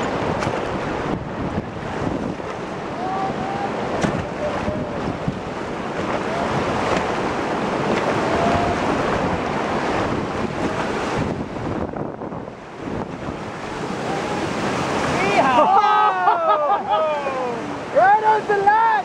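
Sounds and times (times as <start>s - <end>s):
wind buffeting microphone: 0.0s - 15.4s
river rapids rushing: 0.0s - 19.0s.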